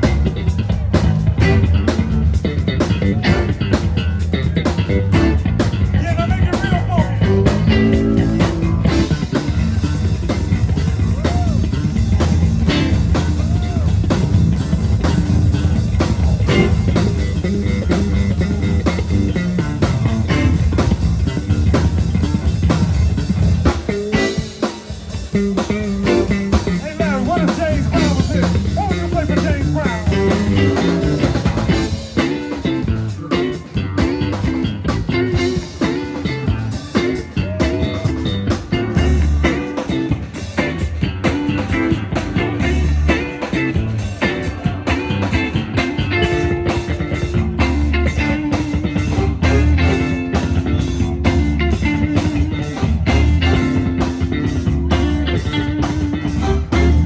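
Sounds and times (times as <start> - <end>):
bass guitar: 0.0 - 57.0
drums beating: 0.0 - 57.0
electric guitar bending notes: 0.0 - 57.0.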